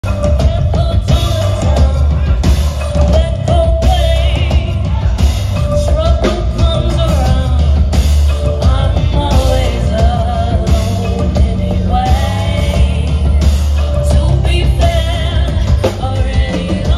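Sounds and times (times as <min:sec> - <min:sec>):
loud music with heavy bass: 0:00.0 - 0:16.9
woman singing into a microphone: 0:00.0 - 0:16.9.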